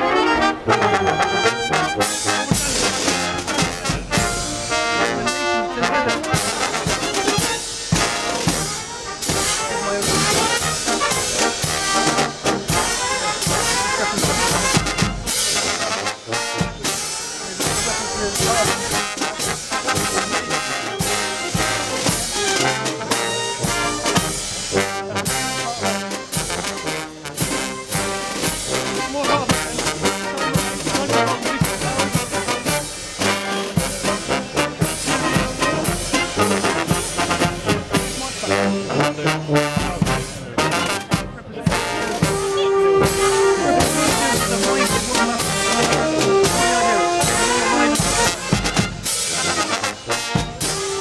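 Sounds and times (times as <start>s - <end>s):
brass instruments playing tune: 0.0s - 51.0s
side drums and bass drum: 2.2s - 4.8s, 6.2s - 38.6s, 39.7s - 51.0s.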